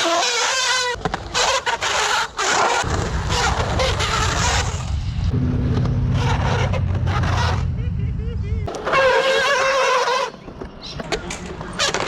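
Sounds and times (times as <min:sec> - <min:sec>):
skateboard wheels on concrete: 0:00.0 - 0:07.7, 0:08.6 - 0:12.0.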